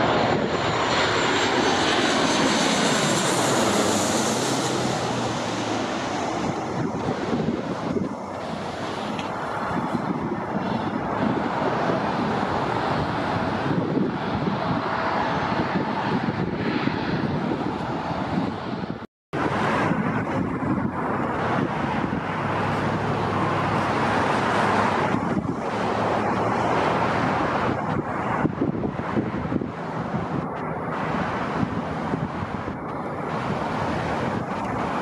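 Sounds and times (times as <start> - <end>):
jet airliner roar: 0.0 - 35.0
road traffic: 0.0 - 35.0.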